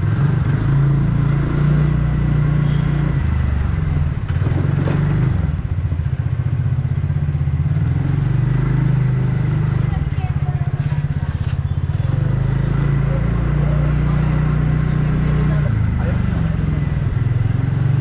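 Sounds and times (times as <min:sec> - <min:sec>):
scooter engine humming: 0:00.8 - 0:18.0.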